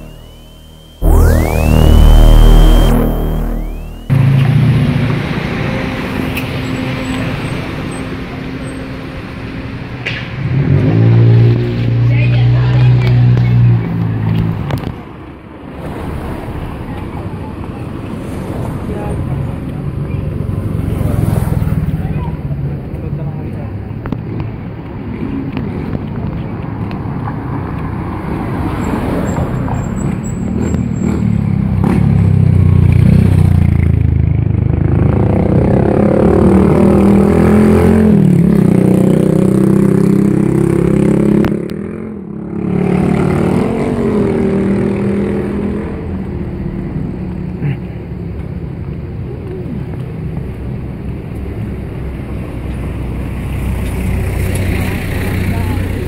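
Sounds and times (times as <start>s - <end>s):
low traffic rumble: 0.0s - 56.0s
vehicle engines passing: 0.0s - 56.0s.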